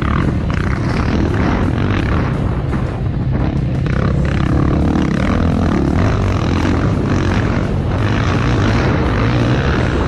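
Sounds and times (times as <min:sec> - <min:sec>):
quad engines droning: 0:00.0 - 0:10.0.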